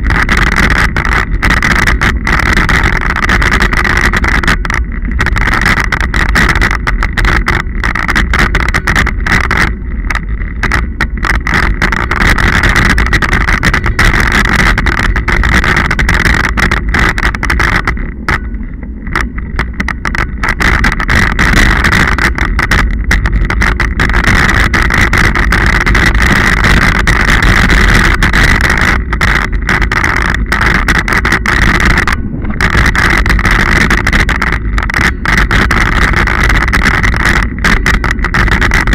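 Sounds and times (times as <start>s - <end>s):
bike tyre and frame rattle: 0.0s - 38.9s
wind rushing on microphone: 0.0s - 38.9s.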